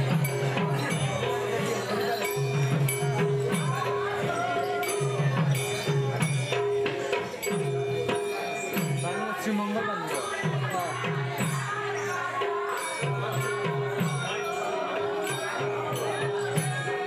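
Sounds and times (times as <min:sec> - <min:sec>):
ringing hand cymbals: 0:00.0 - 0:17.0.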